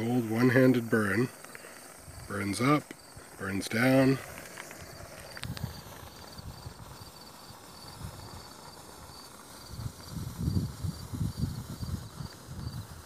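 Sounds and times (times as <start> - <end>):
cricket chirping: 0.0 - 13.0
fuse fizzing: 0.0 - 13.0.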